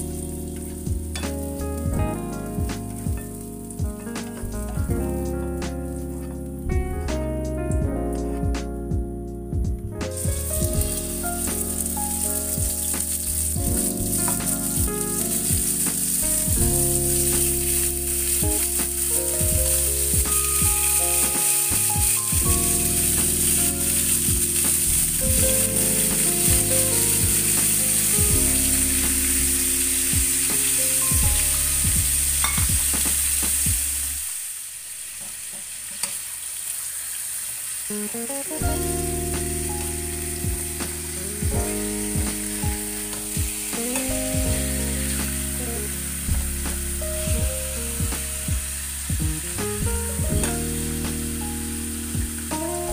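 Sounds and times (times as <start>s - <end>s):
chicken sizzling in oil: 0.0s - 1.8s, 3.2s - 4.5s, 10.4s - 47.1s, 47.7s - 52.9s.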